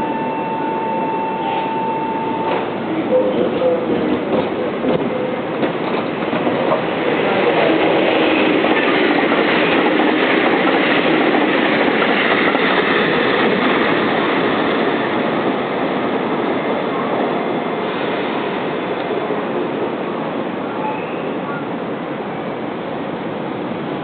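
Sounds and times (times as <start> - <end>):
train wheels rumbling on rails: 2.3 - 24.0.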